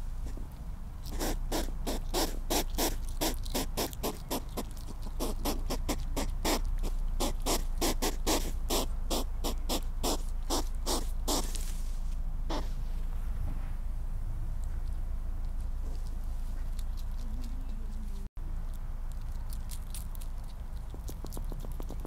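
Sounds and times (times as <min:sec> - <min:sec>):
hedgehog sniffing: 0:01.0 - 0:11.8, 0:12.5 - 0:12.8, 0:14.6 - 0:22.0.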